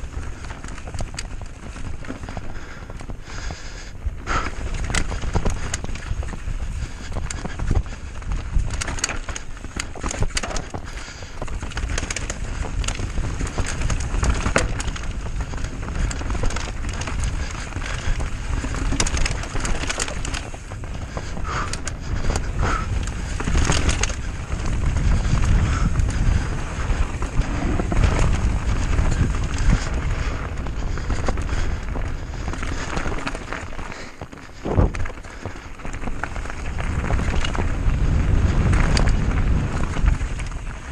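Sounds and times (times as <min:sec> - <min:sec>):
bike clattering and rattling: 0:00.0 - 0:40.9
bike tyres rolling on dirt: 0:00.0 - 0:40.9.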